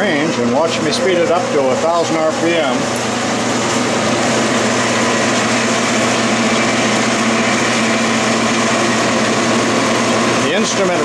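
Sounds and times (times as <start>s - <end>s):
metal lathe running: 0.0s - 11.0s.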